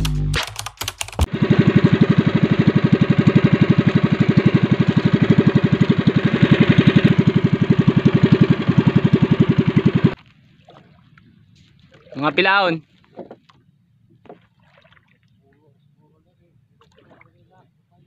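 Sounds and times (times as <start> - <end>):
boat motor running: 1.1 - 18.0.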